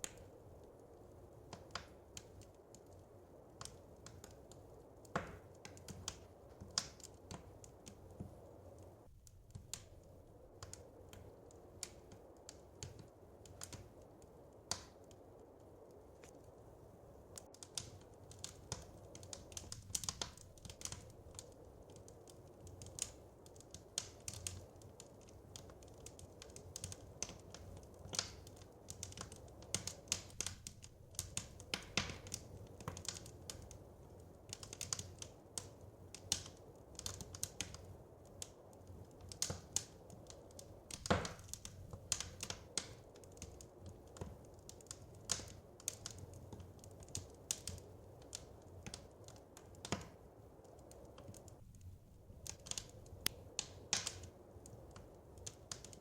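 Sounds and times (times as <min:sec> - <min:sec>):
low steady rush: 0:00.0 - 0:56.0
wood fire crackling: 0:00.0 - 0:56.0.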